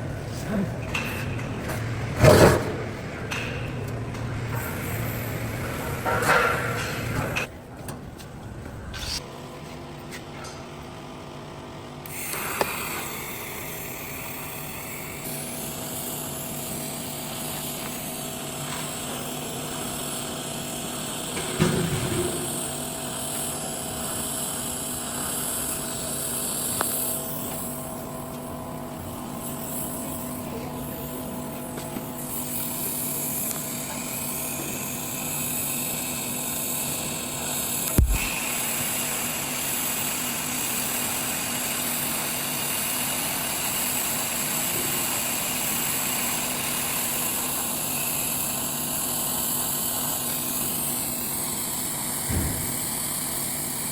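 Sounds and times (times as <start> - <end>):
welding arc hissing: 0.0 - 7.5, 12.0 - 53.9
electrical hum: 0.0 - 53.9.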